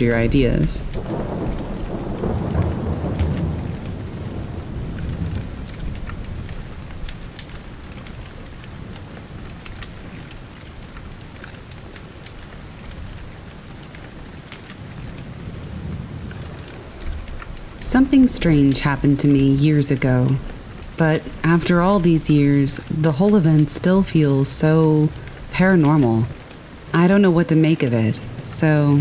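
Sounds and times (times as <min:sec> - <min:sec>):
low thunder rumble: 0:00.0 - 0:29.0
steady rain: 0:00.0 - 0:29.0.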